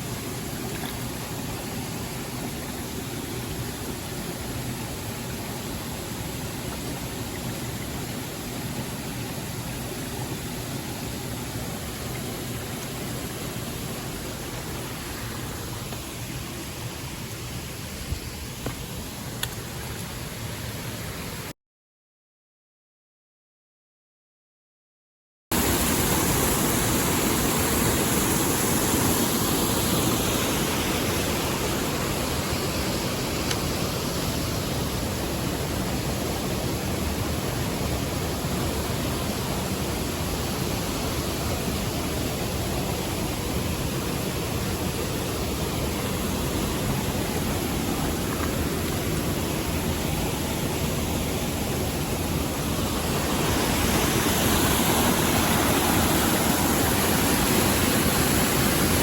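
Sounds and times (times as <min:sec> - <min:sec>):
stream water rushing: 0:00.0 - 0:21.5, 0:25.5 - 0:59.0.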